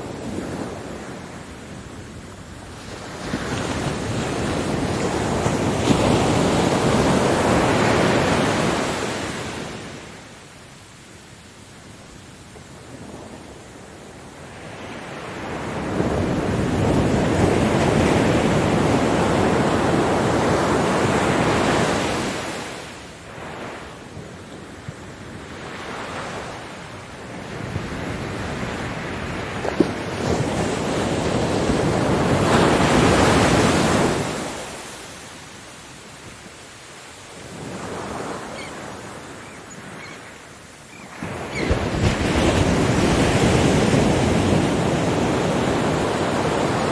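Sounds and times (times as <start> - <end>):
ocean waves breaking: 0.0 - 10.6, 12.4 - 46.9.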